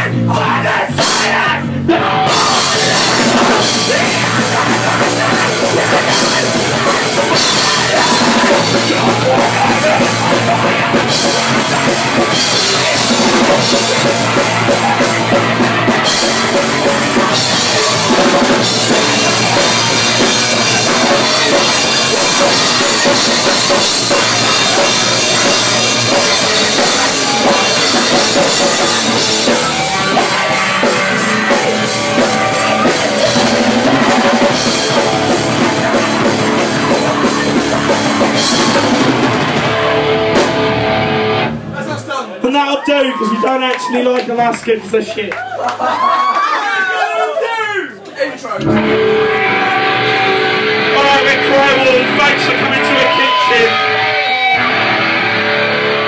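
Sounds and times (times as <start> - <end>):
electric guitar: 0.0 - 41.8, 48.6 - 56.0
drum kit: 0.0 - 41.9, 48.6 - 56.0
bass guitar: 0.0 - 42.1, 48.5 - 56.0.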